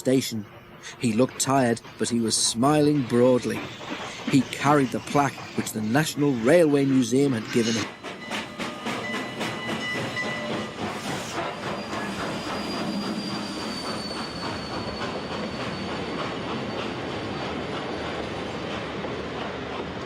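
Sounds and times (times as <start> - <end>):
train clattering on rails: 0.0 - 20.0
high wheel squeal: 1.0 - 18.5.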